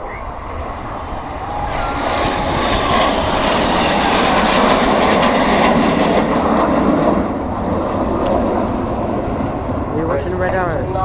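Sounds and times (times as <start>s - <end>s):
jets flying past: 0.0s - 11.0s.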